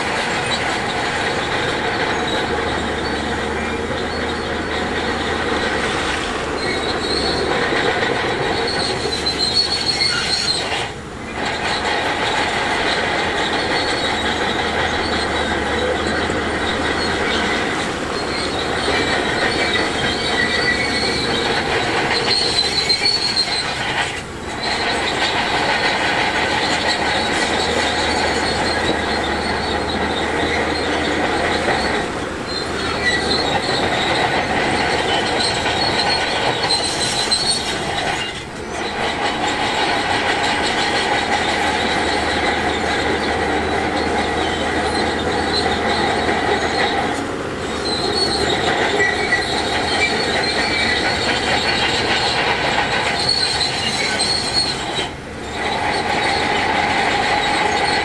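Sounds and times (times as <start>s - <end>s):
heavy machinery engine: 0.0s - 58.0s
metallic squealing and grinding: 0.0s - 58.0s.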